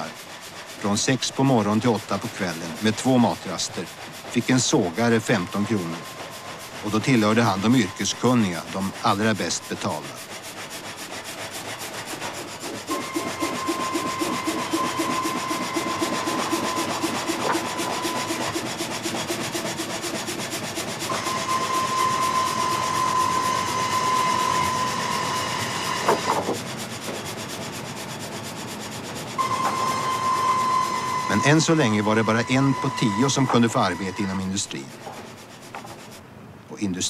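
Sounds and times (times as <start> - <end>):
steady whine: 0.0 - 10.1, 12.8 - 20.0, 20.6 - 36.1
gang saw chugging: 0.0 - 36.2.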